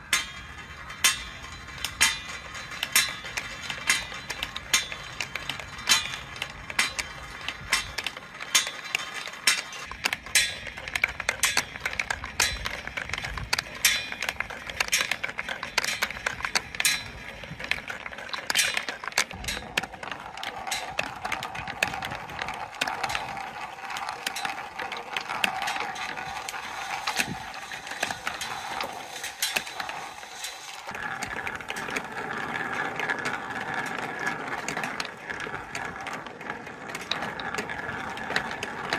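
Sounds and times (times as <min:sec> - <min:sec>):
balls clacking down metal track: 0:00.0 - 0:38.9
balls rolling in plastic tube: 0:00.0 - 0:38.9.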